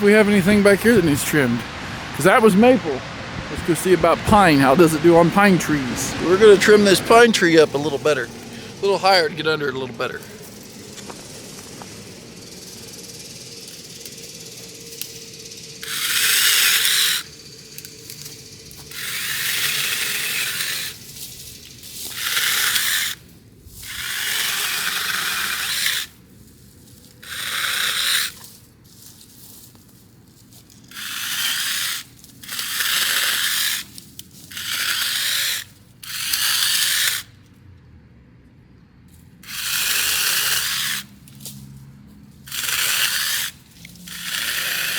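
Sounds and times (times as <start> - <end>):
mini chainsaw cutting branches: 3.7 - 37.3, 39.4 - 41.8, 42.4 - 44.9.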